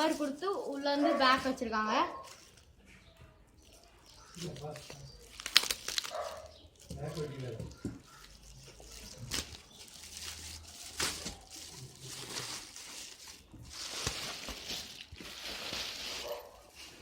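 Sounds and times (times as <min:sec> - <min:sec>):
plastic cover rustling: 0:00.0 - 0:17.0.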